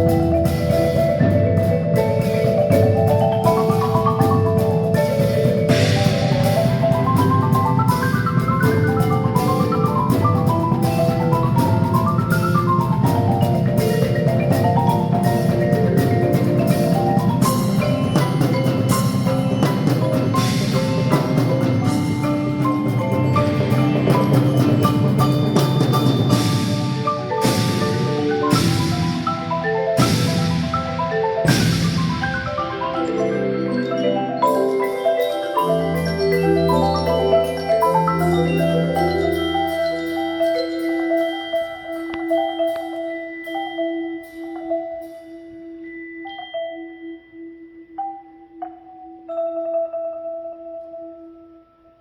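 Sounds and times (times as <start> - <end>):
marimba running notes: 0.0 - 52.0.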